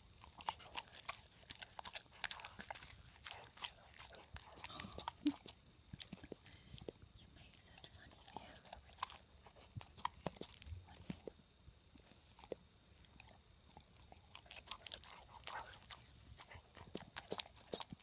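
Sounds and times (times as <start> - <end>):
dog crunching snacks: 0.2 - 7.0, 7.6 - 11.4, 12.0 - 18.0.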